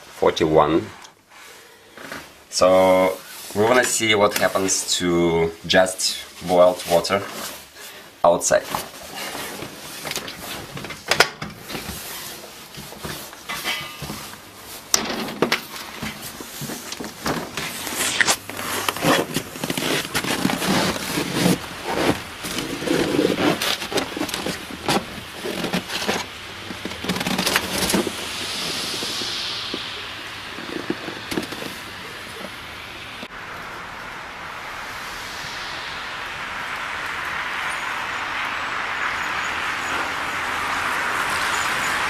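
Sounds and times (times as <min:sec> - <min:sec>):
rustle of heavy coat: 0:00.0 - 0:32.6, 0:34.7 - 0:42.0
soft hiss of water freezing: 0:00.0 - 0:42.0.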